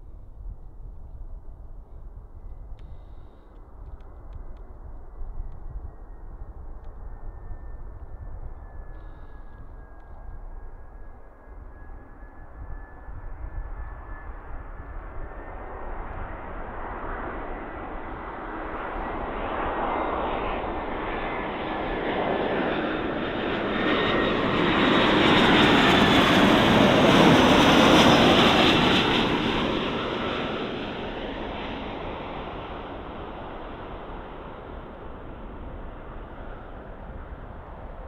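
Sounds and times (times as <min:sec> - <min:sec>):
jet airliner passing overhead: 0:00.1 - 0:38.0.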